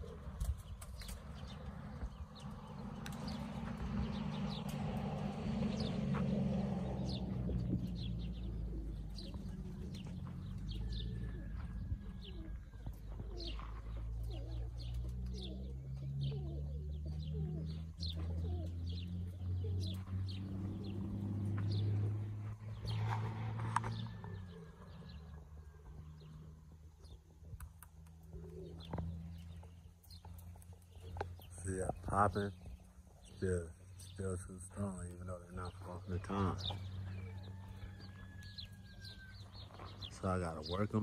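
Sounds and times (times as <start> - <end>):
pigeons cooing: 0.0 - 41.0
small birds chirping: 0.0 - 41.0.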